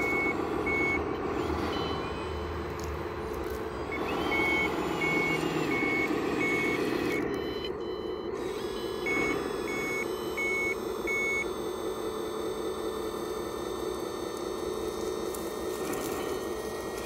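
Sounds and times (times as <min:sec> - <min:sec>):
model truck running hum: 0:00.0 - 0:17.0
reversing beeper high beeps: 0:00.0 - 0:17.0.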